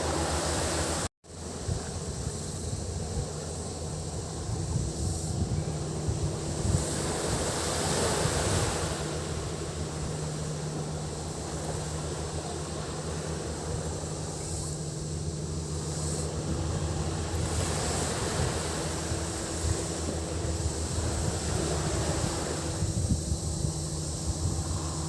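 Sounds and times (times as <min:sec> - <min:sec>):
cicadas buzzing: 0:00.0 - 0:25.0
low engine hum: 0:00.0 - 0:25.0
waves washing onto beach: 0:00.0 - 0:25.0.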